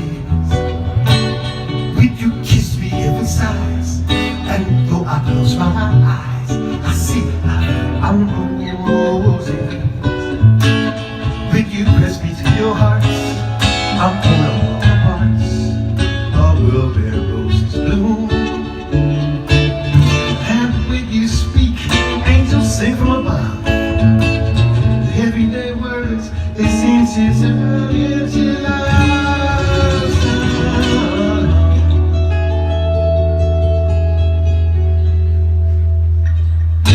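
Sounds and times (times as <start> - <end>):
acoustic guitar picking: 0.0 - 36.9.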